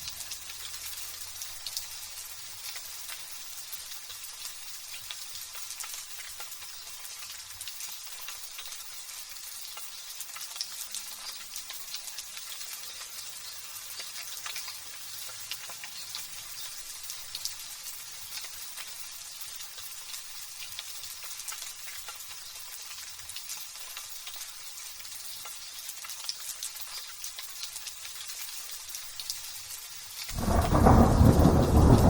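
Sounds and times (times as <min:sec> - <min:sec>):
light drizzling rain: 0:00.0 - 0:32.0.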